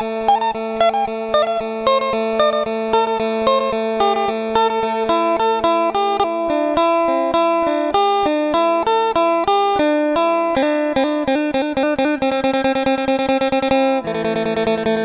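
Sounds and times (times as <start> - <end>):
plucked guitar melody: 0.0 - 15.0.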